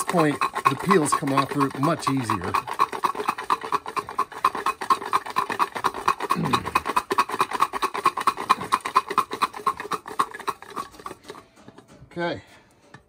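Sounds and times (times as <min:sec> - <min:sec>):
garlic rattling in a container: 0:00.0 - 0:12.3.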